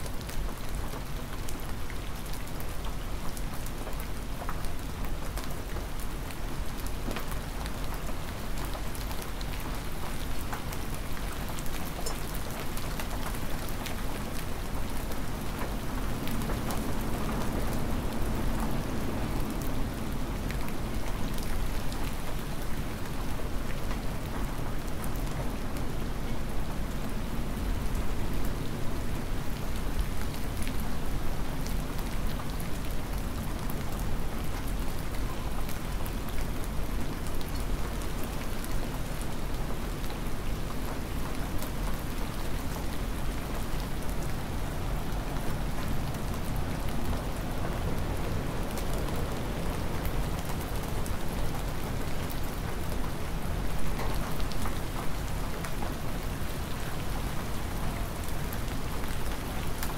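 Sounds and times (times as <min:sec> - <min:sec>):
hard rain falling: 0:00.0 - 0:59.9
raindrops ticking close by: 0:00.0 - 0:59.9.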